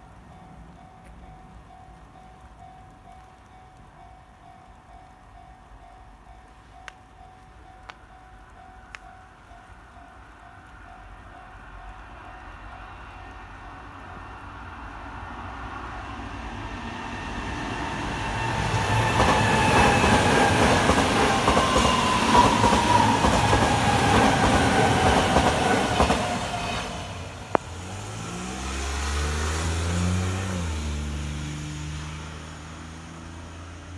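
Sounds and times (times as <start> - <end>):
electric train passing: 0.0 - 33.9.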